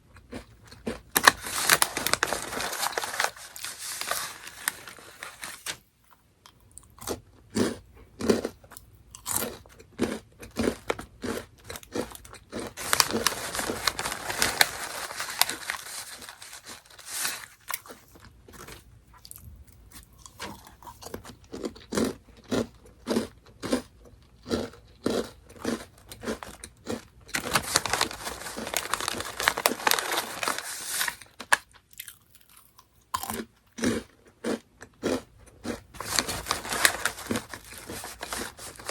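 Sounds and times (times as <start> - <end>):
crunching crackers: 0.0 - 5.8, 6.4 - 38.9.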